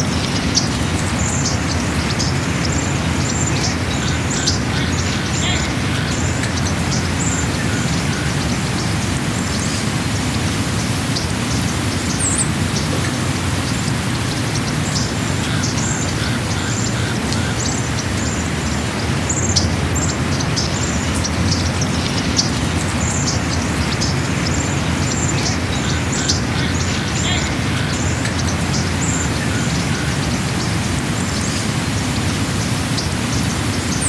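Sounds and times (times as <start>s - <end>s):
birds chirping: 0.0s - 34.0s
steady rushing noise: 0.0s - 34.0s.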